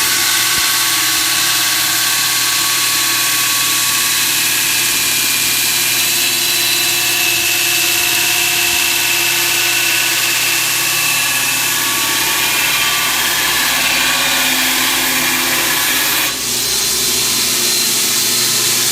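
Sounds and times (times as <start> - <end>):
belt grinder grinding steel: 0.0 - 18.9.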